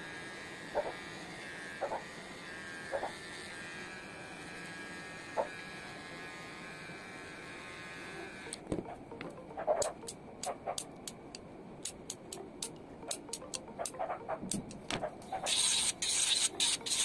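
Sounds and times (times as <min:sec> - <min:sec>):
pet clipper buzzing: 0:00.0 - 0:11.2, 0:11.8 - 0:17.0.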